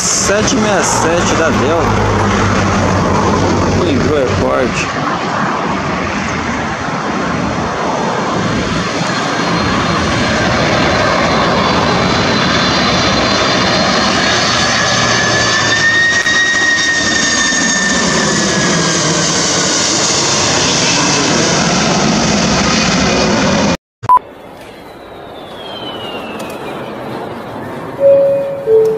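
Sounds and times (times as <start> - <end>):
jetliner engines roaring by: 0.0 - 28.9.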